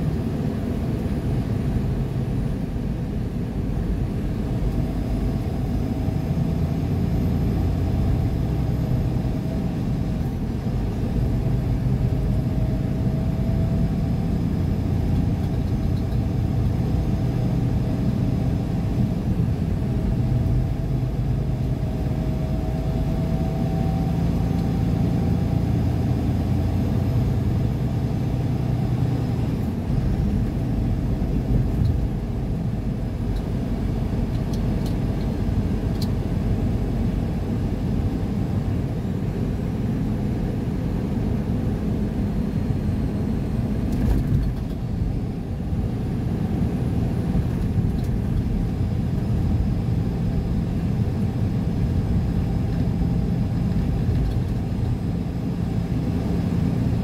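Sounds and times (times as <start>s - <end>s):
tyre road noise: 0.0s - 39.0s, 42.3s - 57.0s
car engine hum: 0.0s - 57.0s.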